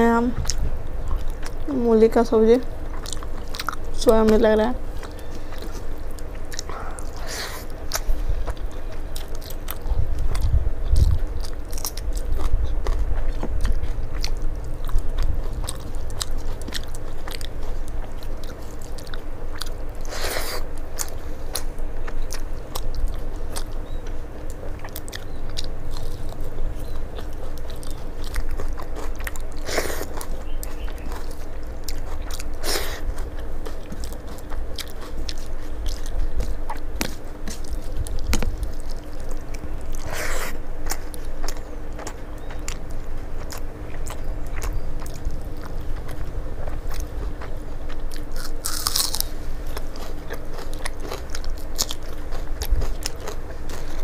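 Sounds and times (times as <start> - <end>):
person chewing food: 0.4 - 1.7, 2.8 - 54.0.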